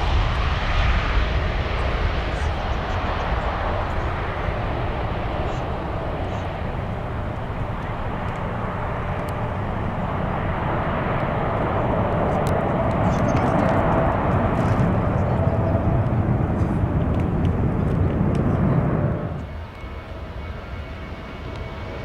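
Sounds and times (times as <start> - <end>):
jet airliner engines roaring: 0.0 - 22.0.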